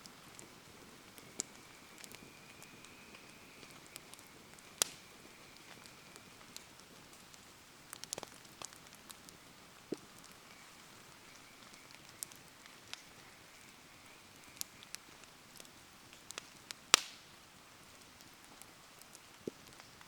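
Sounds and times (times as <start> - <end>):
faint hiss of rain: 0.0 - 20.0
wood fire crackling and popping: 0.0 - 20.0.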